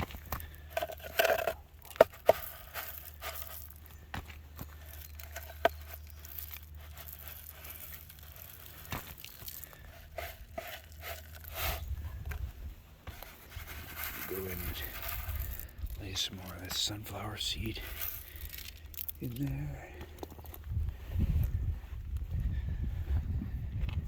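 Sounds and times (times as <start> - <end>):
bird feed rustling and crinkling: 0.0 - 20.6.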